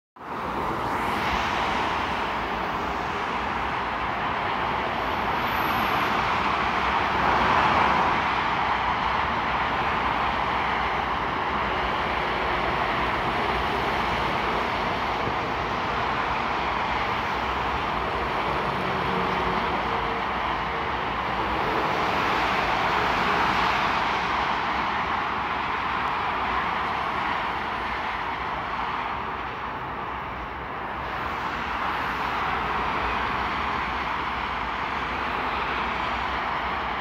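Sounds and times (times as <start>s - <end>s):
fast motorway traffic: 0.2s - 37.0s.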